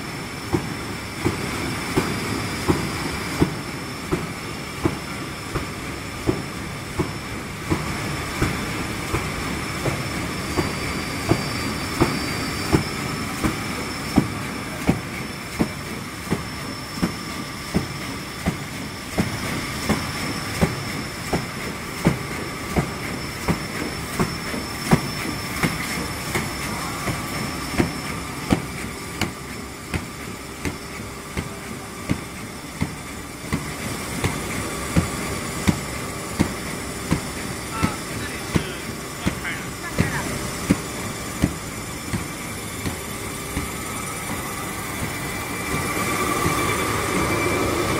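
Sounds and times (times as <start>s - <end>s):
constant whining tones: 0.0s - 47.9s
machinery hum: 0.0s - 47.9s.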